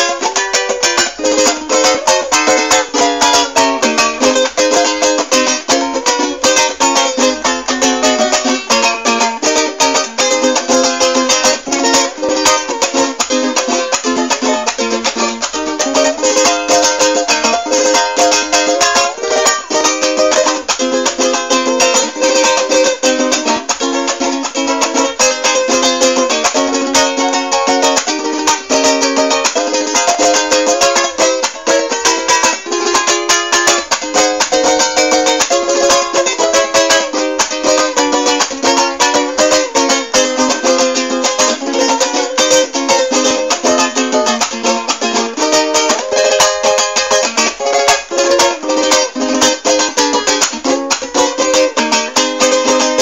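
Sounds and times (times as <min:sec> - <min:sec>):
plucked string instrument strummed: 0:00.0 - 0:53.0.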